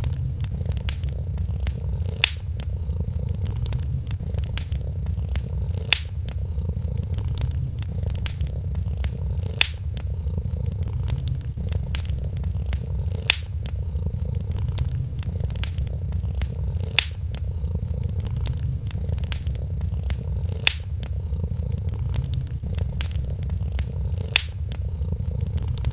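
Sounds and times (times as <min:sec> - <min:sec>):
cat purring: 0:00.0 - 0:25.9
sharp pops from fire: 0:00.0 - 0:25.9
wood fire crackling: 0:00.0 - 0:25.9.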